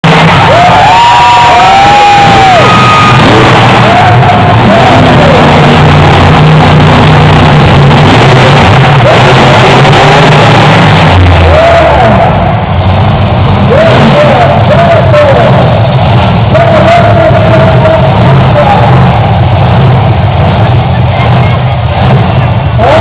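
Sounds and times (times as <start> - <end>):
loud music: 0.0 - 23.0
monster truck engine running: 0.0 - 23.0.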